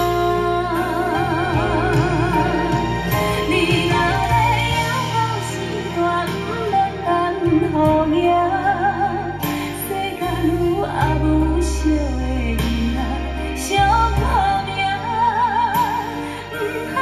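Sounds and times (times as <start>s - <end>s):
pop ballad over loudspeakers: 0.0s - 17.0s.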